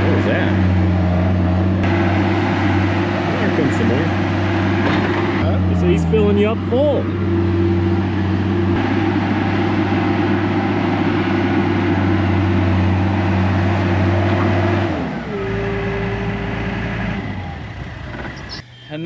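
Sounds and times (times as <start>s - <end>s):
skid loader engine running: 0.0s - 19.0s.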